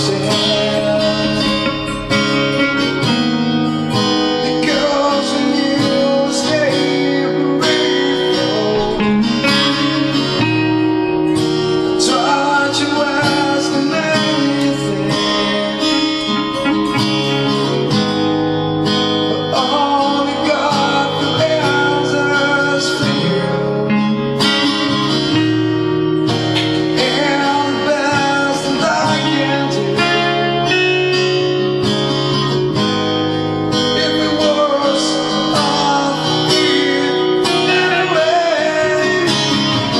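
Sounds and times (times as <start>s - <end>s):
person singing: 0.0s - 18.2s, 19.0s - 31.6s, 33.8s - 39.9s
acoustic guitar strumming chords: 0.0s - 39.9s.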